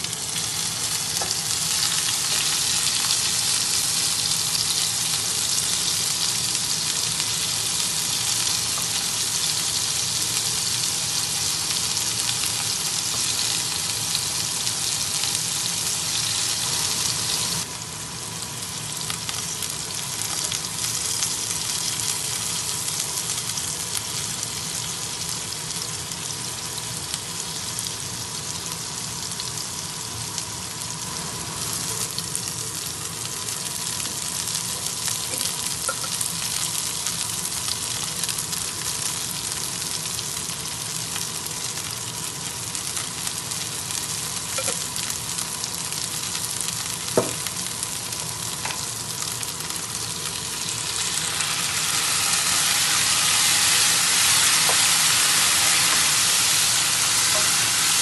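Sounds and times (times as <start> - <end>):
tofu sizzling in oil: 0.0 - 58.0.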